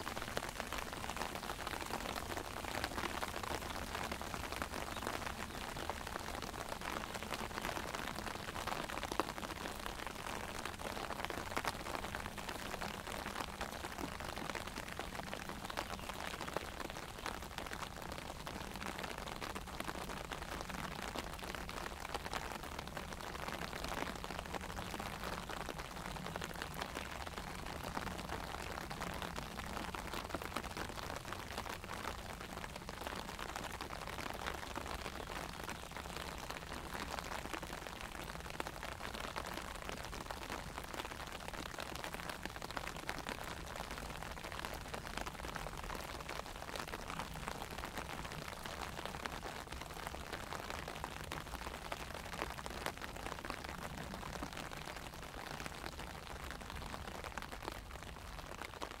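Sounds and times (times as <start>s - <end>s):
rain falling on an umbrella: 0.0s - 59.0s.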